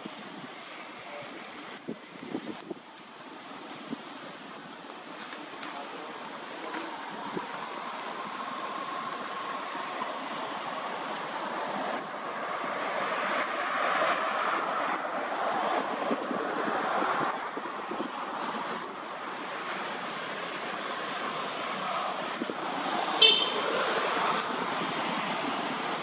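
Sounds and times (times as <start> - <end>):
wind through tree leaves: 0.0 - 26.0.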